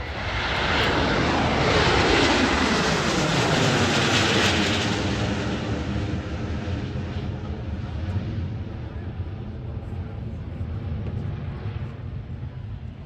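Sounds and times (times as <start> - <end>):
jet flying past: 0.0 - 12.9.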